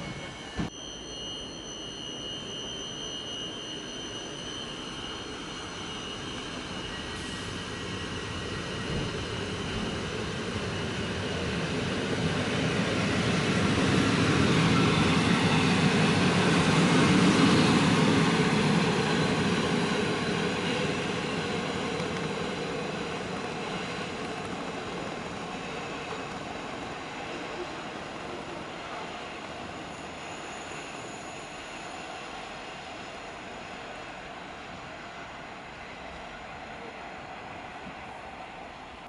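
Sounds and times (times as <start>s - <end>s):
train wheels rumbling on track: 4.4s - 39.0s.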